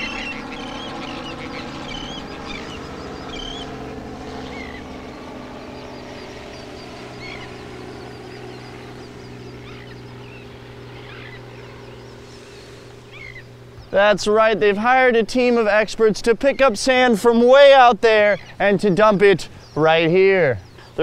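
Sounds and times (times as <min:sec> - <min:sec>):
birds chirping: 0:00.0 - 0:21.0
helicopter drone: 0:00.0 - 0:21.0.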